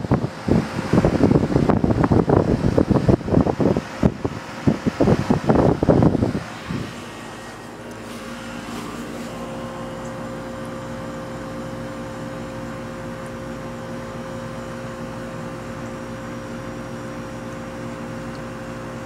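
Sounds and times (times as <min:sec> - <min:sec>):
higher hum tone: 0:00.0 - 0:16.5
air conditioner hum: 0:00.0 - 0:19.0.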